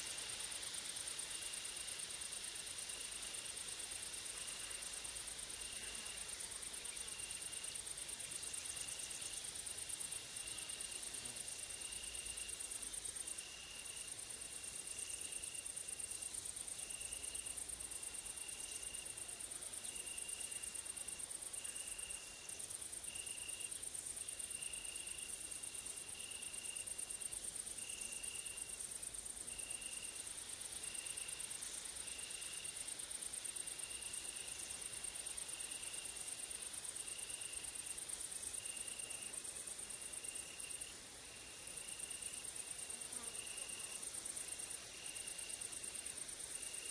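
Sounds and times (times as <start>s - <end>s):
insect chirp: 0.0s - 46.9s
high-pitched insect trill: 0.1s - 46.9s.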